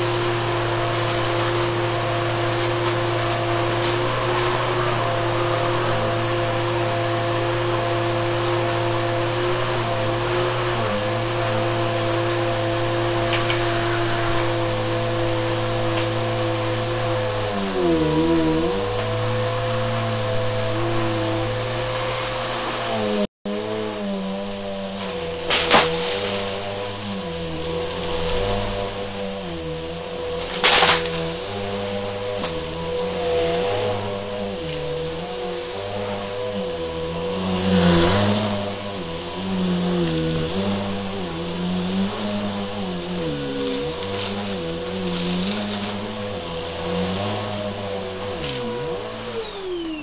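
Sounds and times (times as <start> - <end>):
vacuum cleaner running with whine: 0.0 - 50.0.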